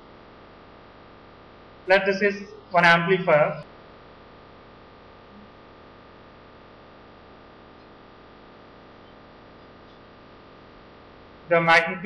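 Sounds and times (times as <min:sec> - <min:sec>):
faint high whine: 0:00.0 - 0:12.0
microphone hiss and hum: 0:00.0 - 0:12.0.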